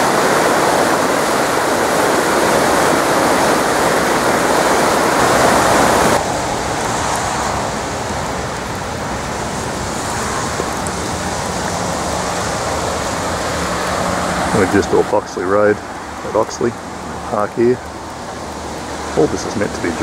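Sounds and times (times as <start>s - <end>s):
floodwater creek rushing: 0.0s - 20.0s
rain falling on standing water: 0.0s - 20.0s.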